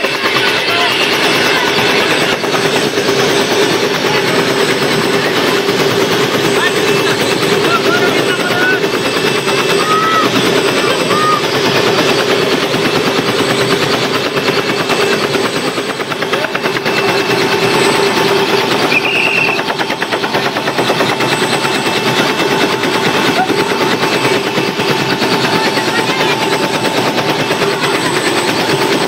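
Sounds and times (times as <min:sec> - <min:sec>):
helicopter engine hum: 0:00.0 - 0:29.0
helicopter rotor blades chopping: 0:00.0 - 0:29.0.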